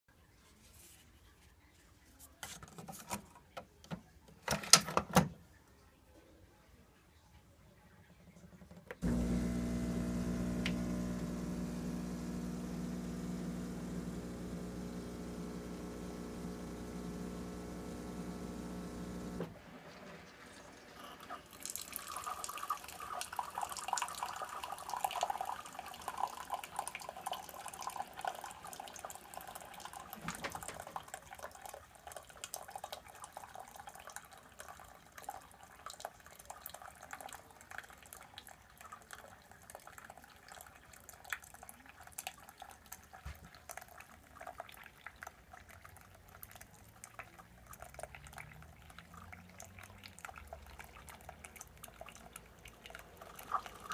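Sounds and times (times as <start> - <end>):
coffee trickling into mug: 9.0 - 53.9.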